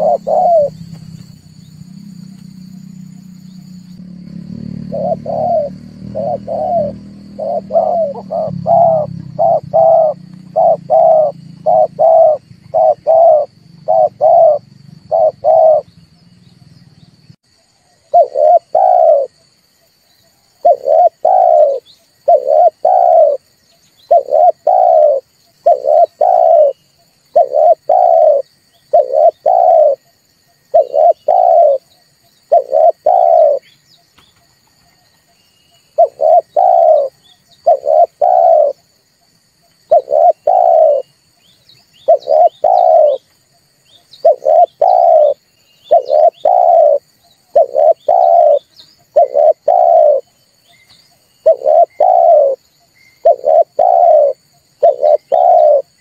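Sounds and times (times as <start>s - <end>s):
dove cooing: 0.0s - 15.9s, 18.0s - 19.4s, 20.3s - 33.7s, 35.8s - 39.0s, 39.8s - 41.1s, 42.0s - 43.3s, 44.1s - 50.4s, 51.2s - 56.0s.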